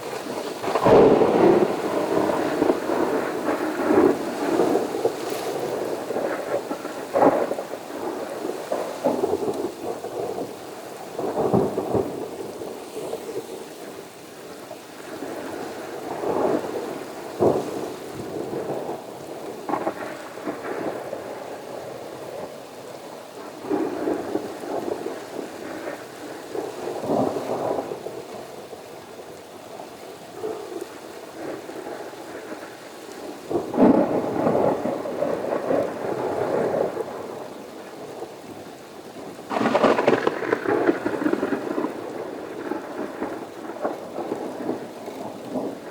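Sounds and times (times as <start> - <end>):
steady rain: 0.0 - 45.9
thunder rumbling: 0.0 - 45.9.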